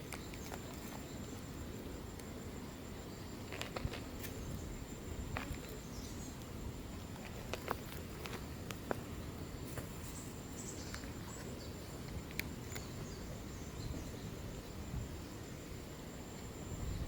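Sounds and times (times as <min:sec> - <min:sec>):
high insect trill: 0:00.0 - 0:17.0
low wind-like rumble: 0:00.0 - 0:17.0.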